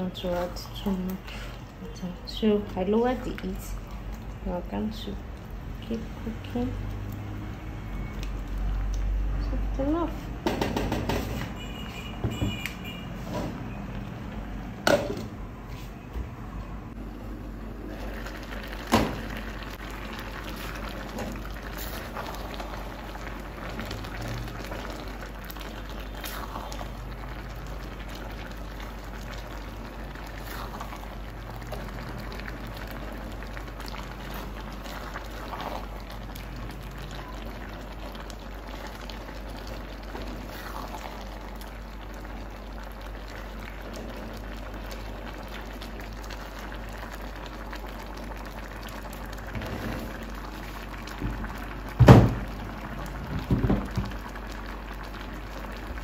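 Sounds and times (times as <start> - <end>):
porridge bubbling in a pot: 0.0 - 56.0.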